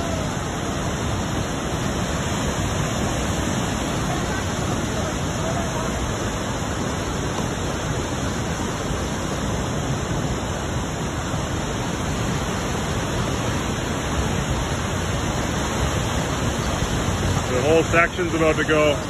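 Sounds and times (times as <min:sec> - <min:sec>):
water rushing over road edge: 0:00.0 - 0:19.0.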